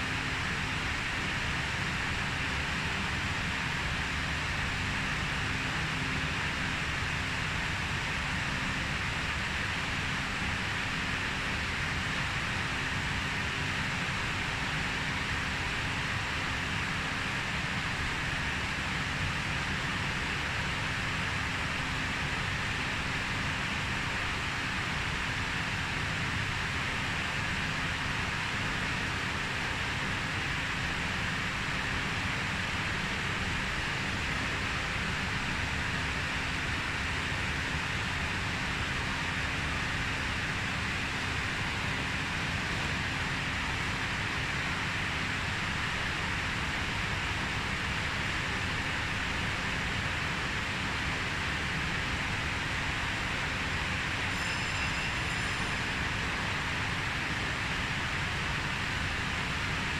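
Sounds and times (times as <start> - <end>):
faint high electronic whine: 0.0 - 59.9.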